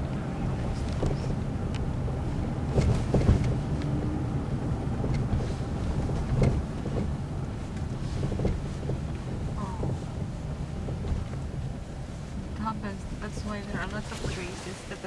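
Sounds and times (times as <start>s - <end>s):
car driving rumble inside cabin: 0.0s - 15.0s.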